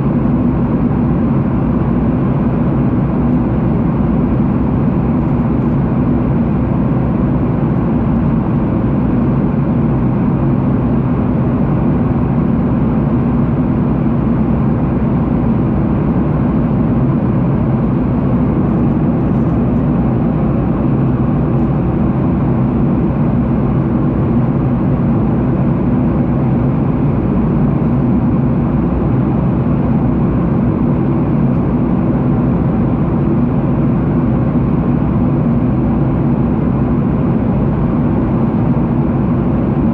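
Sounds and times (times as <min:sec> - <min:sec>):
air rushing in cabin: 0:00.0 - 0:39.9
jet engines rumbling: 0:00.0 - 0:39.9.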